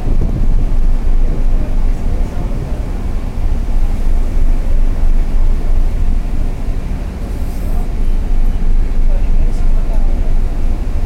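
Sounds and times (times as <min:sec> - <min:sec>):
ship hum: 0:00.0 - 0:11.0
wind buffeting microphone: 0:00.0 - 0:11.0.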